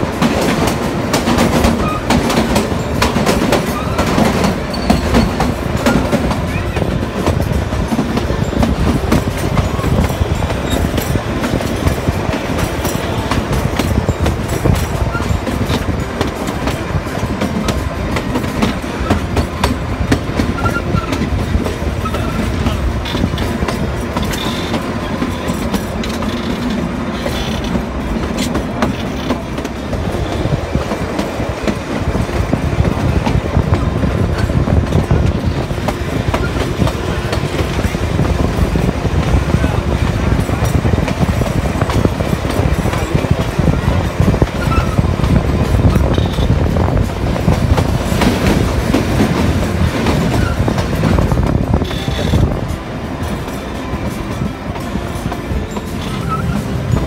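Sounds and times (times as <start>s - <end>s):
train wheels clattering on track: 0.0s - 57.0s.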